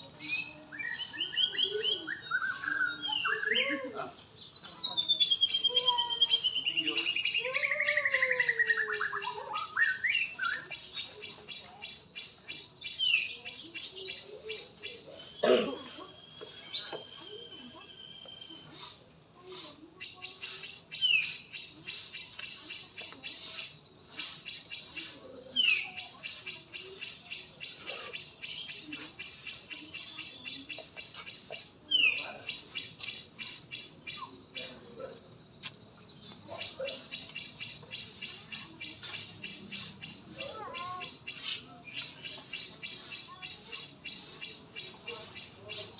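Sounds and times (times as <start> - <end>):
fast high chatter: 0.0 - 45.9
songbird trilling: 0.0 - 45.9.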